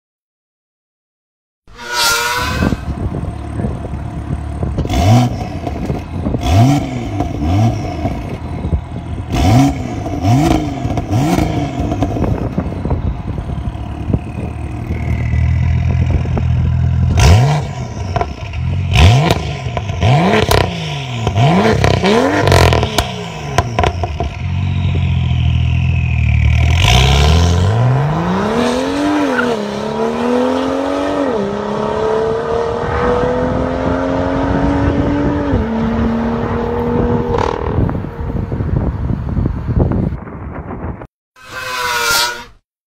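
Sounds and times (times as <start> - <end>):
car engine revving: 1.8 - 38.6.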